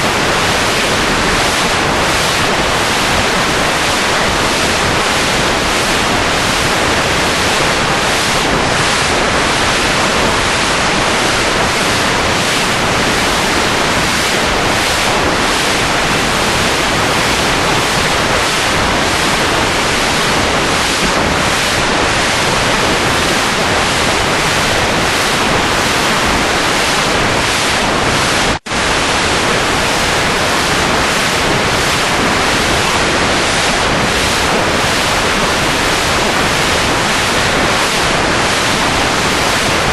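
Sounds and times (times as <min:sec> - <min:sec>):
steady rushing static hiss: 0:00.0 - 0:39.9.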